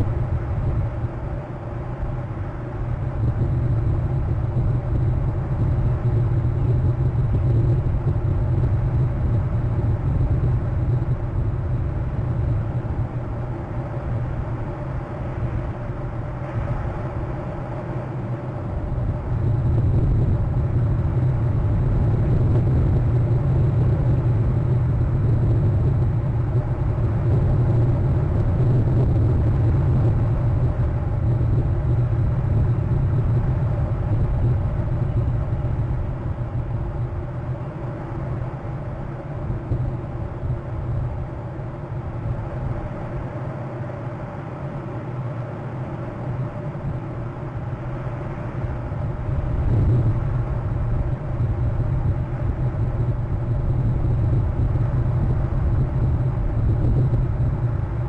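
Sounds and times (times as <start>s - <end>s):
low rumble: 0.0s - 43.3s, 47.0s - 58.0s.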